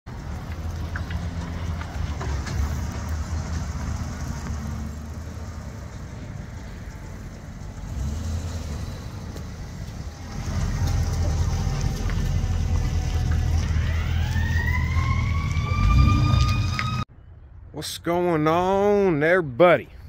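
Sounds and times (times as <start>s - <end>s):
pickup truck engine rumble: 0.1s - 17.1s.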